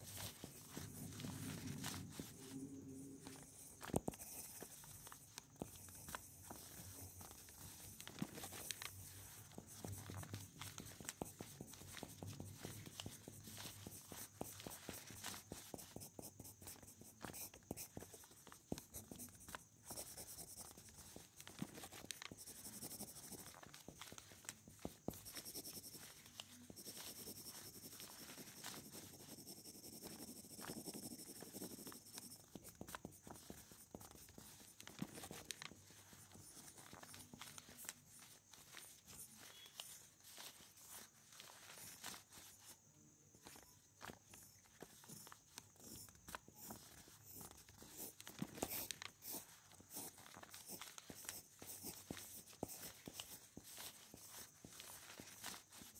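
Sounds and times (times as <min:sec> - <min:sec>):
pen scratching on paper: 0:00.0 - 0:55.9.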